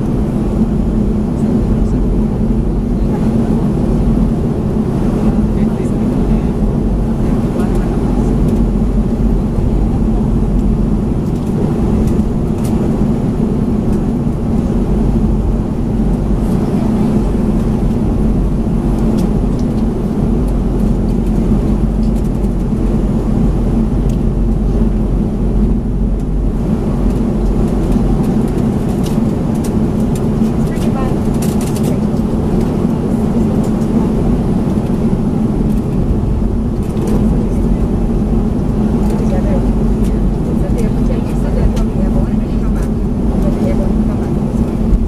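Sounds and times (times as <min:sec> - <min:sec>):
jet engines humming: 0:00.0 - 0:45.0.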